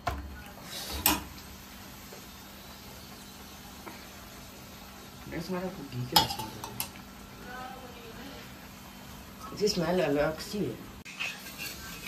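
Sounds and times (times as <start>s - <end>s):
faint stove hiss: 0.0s - 12.0s.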